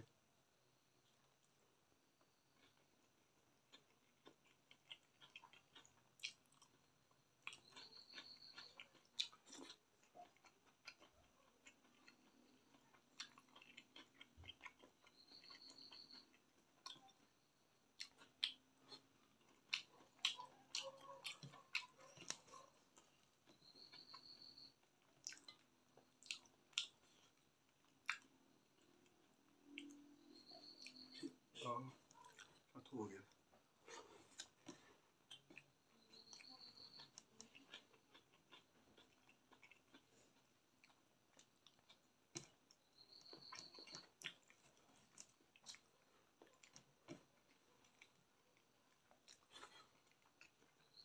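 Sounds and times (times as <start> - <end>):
chewing and lip-smacking: 2.5 - 31.3, 32.0 - 51.0.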